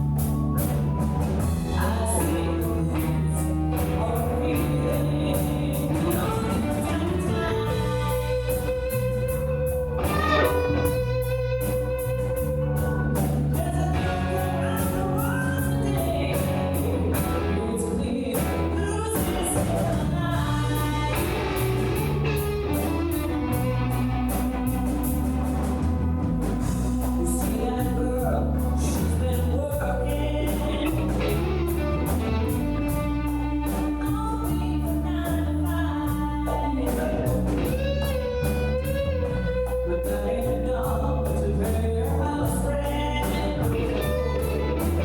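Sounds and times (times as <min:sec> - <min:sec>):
rock band playing: 0:00.0 - 0:45.0
person singing: 0:01.4 - 0:09.4, 0:10.0 - 0:24.0, 0:26.9 - 0:45.0.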